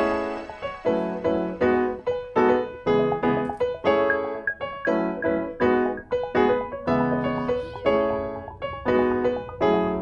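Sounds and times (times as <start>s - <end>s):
piano playing repeated chords: 0.0s - 10.0s.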